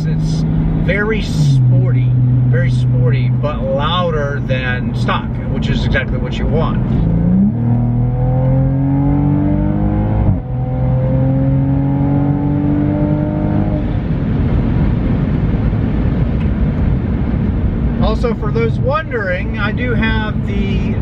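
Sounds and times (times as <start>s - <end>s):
car engine accelerating hard: 0.0s - 21.0s
road noise: 0.0s - 21.0s.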